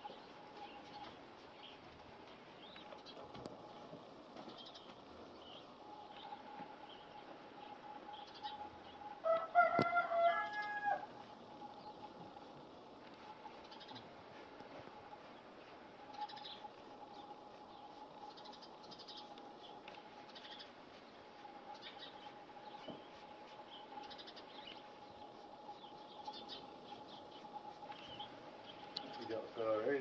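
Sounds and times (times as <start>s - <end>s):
faint steady tone: 0.0s - 30.0s
faint bird chirps: 4.5s - 9.4s, 10.2s - 30.0s.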